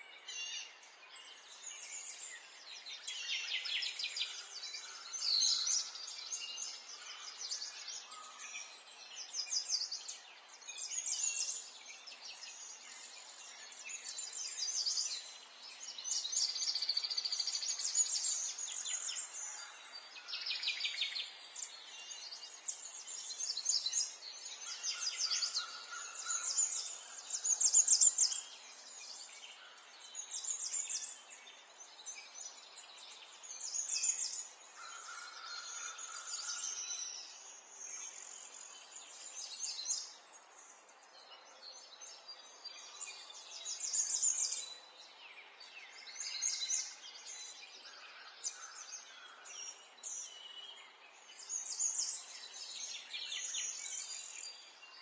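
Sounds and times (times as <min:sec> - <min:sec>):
birds singing and chirping: 0:00.0 - 0:55.0.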